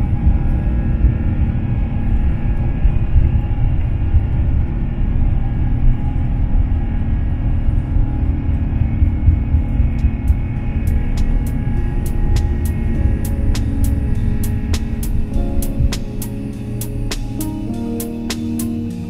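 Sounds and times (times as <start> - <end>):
jet engines at takeoff thrust: 0.0 - 19.0.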